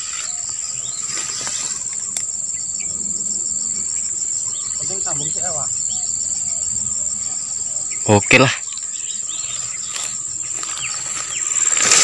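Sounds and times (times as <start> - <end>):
fast pulsing insect call: 0.0 - 12.0
shrill insect drone: 0.0 - 12.0.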